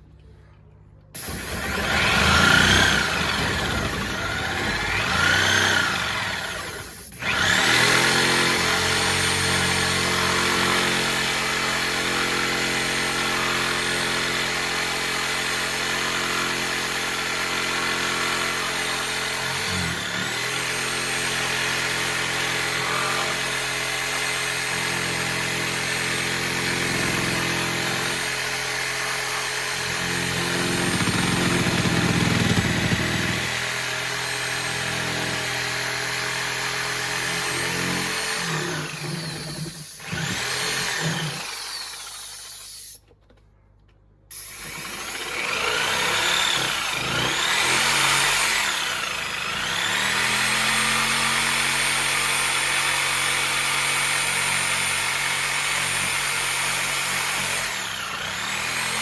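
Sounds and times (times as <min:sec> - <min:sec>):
circular saw cutting plywood: 0:01.2 - 0:43.0, 0:44.3 - 0:59.0.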